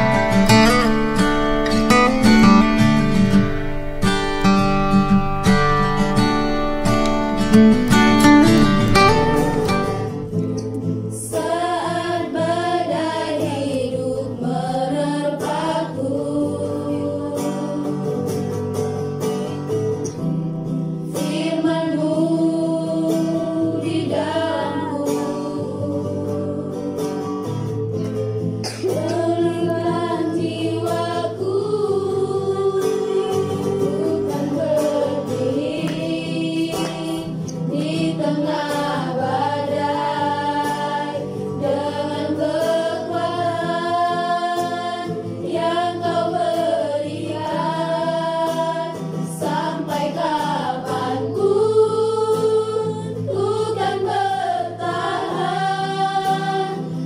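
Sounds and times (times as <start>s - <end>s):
acoustic guitar: 0.0s - 57.0s
women singing in unison: 8.6s - 18.5s, 21.1s - 57.0s.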